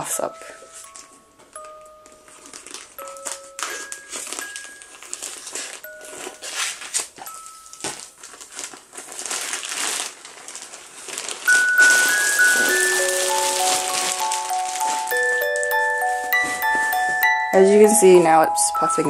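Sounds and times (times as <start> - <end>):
plastic wrap crinkling: 0.0 - 19.0.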